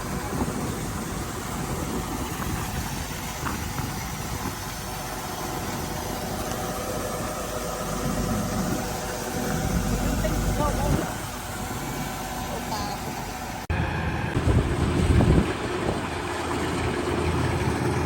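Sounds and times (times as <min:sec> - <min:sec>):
combine harvester diesel engine drone: 0:00.0 - 0:18.0
machinery noise: 0:00.0 - 0:18.0.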